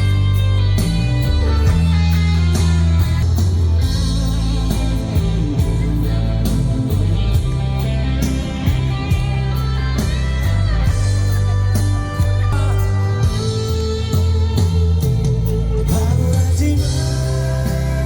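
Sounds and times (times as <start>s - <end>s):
bass guitar: 0.0s - 18.0s
drums with cymbals: 0.0s - 18.0s
lead electric guitar bending notes: 0.0s - 18.0s.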